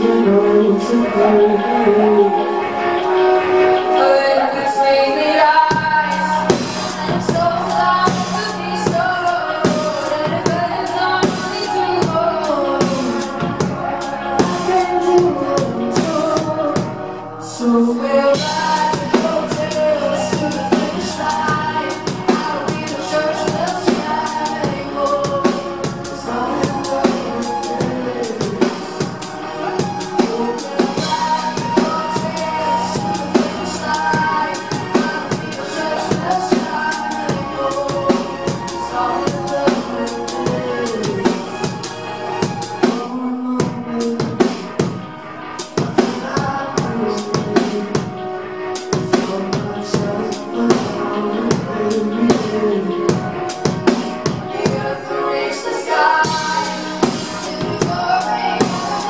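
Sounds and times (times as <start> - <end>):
electropop band playing: 0.0 - 59.0
woman singing: 0.0 - 59.0.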